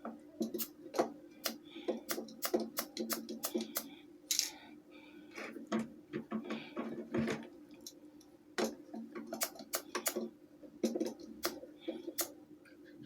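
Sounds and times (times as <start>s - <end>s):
fan mechanism clicks and taps: 0.0s - 4.5s, 5.7s - 12.3s.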